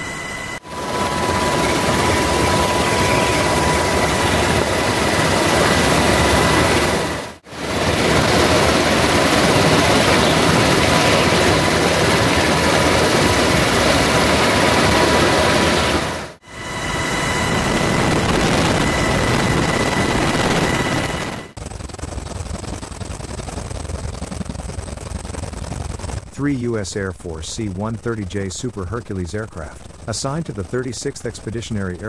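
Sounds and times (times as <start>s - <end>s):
aircraft engine noise: 0.0s - 32.0s.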